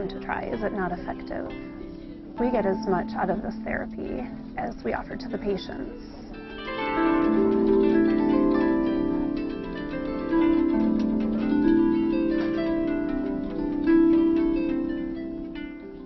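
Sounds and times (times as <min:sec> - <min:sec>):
plucked harp melody: 0:00.0 - 0:16.0.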